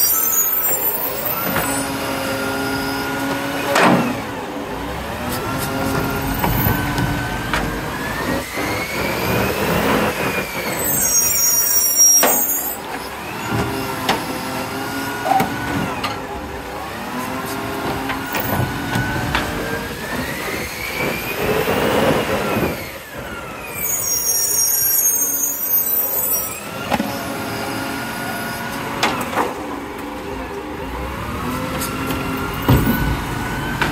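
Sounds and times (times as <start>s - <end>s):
garbage truck diesel engine: 0.0s - 33.9s.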